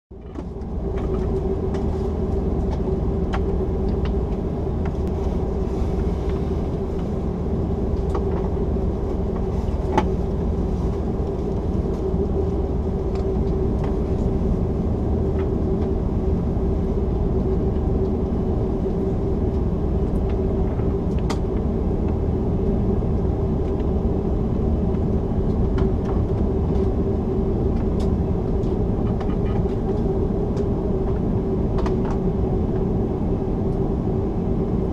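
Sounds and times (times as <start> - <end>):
aircraft cabin engine rumble: 0.1 - 34.9
mid-pitched hum: 0.1 - 34.9.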